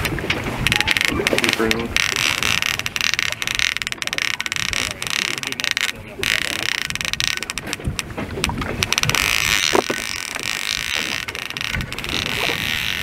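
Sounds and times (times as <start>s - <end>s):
boat rushing on water: 0.0s - 13.0s
sharp clicks and knocks: 0.0s - 13.0s
wind on microphone: 0.0s - 13.0s.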